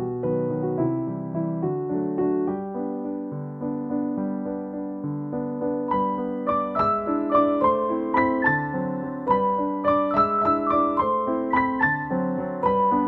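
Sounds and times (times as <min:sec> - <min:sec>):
keyboard piano notes and chords: 0:00.0 - 0:13.0.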